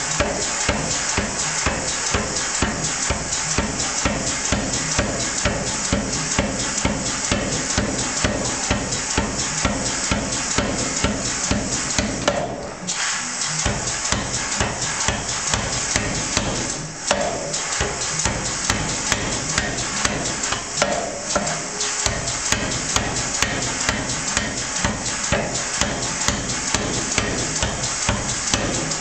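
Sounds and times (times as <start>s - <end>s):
power hammer pounding hot metal: 0.0s - 12.6s, 13.3s - 29.0s.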